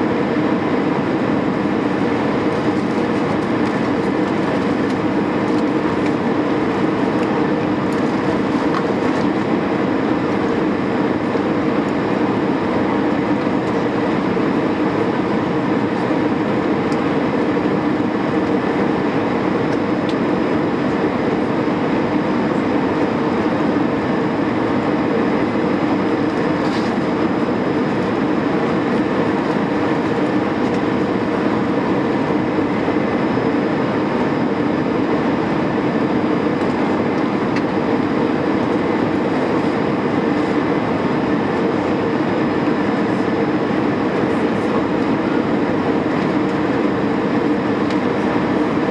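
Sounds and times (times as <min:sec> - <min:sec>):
jet engines roaring in cabin: 0:00.0 - 0:48.9.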